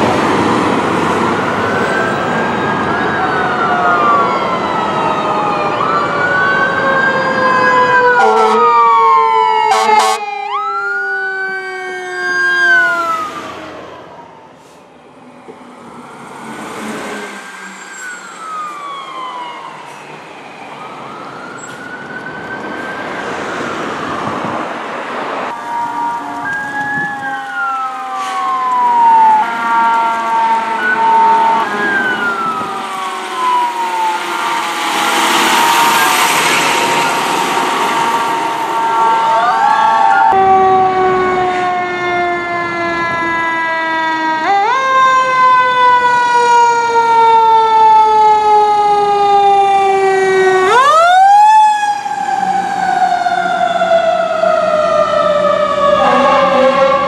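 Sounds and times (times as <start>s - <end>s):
fire truck siren wailing: 0.0s - 57.0s.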